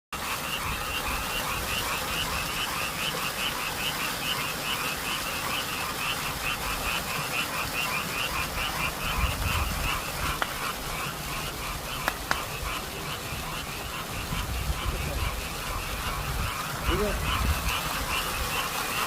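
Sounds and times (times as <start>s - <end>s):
chorus of frogs croaking: 0.2s - 19.0s.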